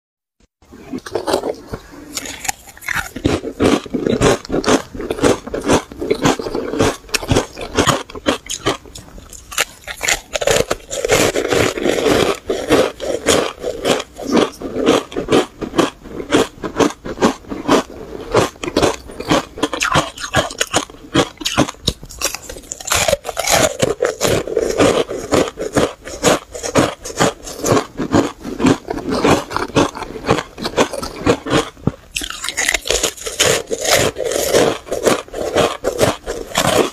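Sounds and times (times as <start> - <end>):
crunching ice chewing: 1.0 - 36.9.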